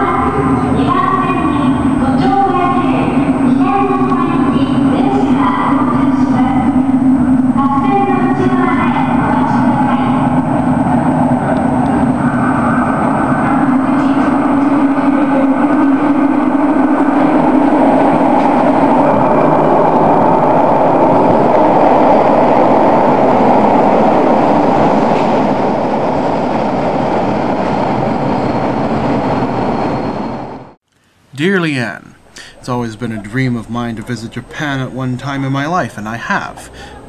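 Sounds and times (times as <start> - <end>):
subway train rumbling: 0.0 - 37.0.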